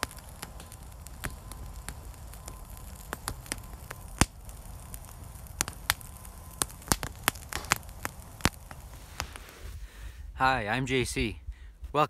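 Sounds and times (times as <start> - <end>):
campfire crackling and popping: 0.0 - 12.0
low steady fire rumble: 0.0 - 12.0.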